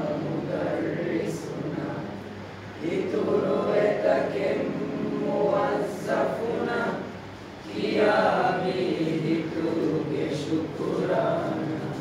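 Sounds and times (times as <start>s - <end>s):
group reciting in unison: 0.0s - 12.0s.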